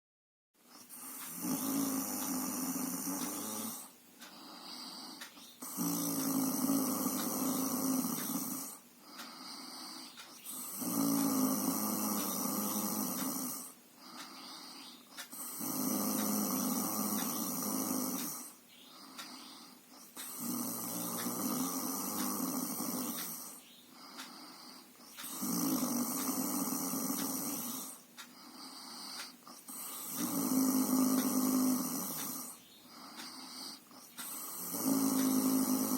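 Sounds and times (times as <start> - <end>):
quiet breathing: 0.6 - 35.9
person snoring: 0.7 - 35.9.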